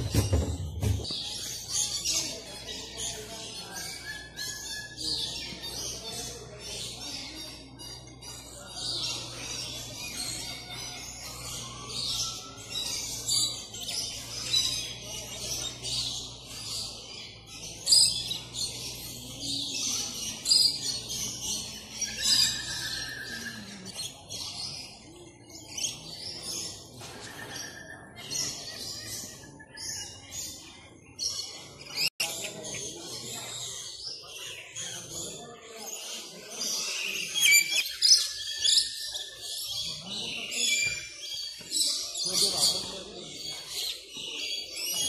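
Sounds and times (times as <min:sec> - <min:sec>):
birds chirping and calling: 0:00.0 - 0:45.0.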